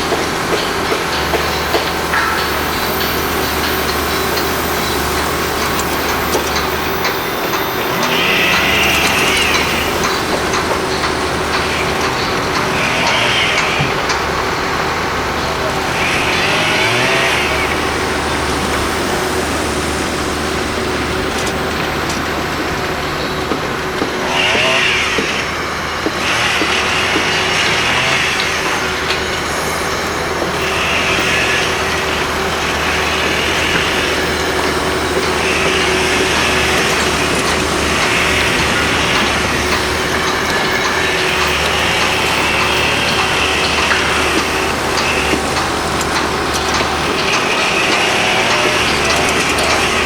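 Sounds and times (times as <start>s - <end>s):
heavy machinery engines running: 0.0s - 50.0s
hissing or grinding noise: 0.0s - 50.0s.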